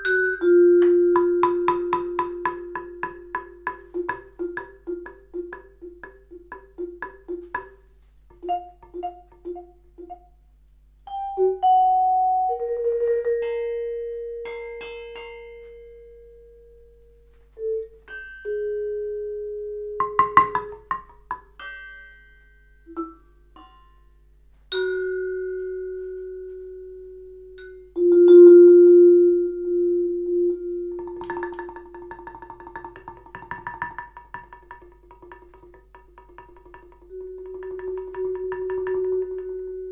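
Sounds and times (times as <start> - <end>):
vibraphone played with mallets: 0.0 - 7.8, 8.4 - 10.4, 11.0 - 16.8, 17.6 - 39.9.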